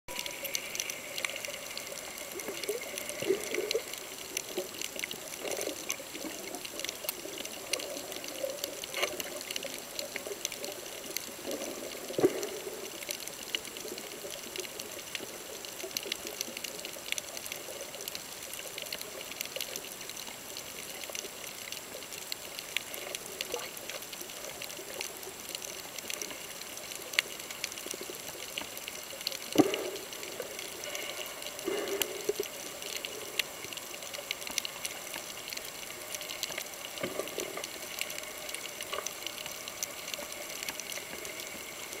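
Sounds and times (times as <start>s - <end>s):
faint underwater clicks and crackles: 0.1s - 42.0s.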